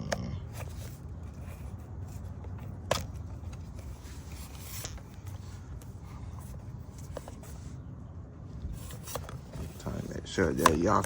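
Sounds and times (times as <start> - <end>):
camera handling rubbing on microphone: 0.5 - 7.7, 8.6 - 11.0.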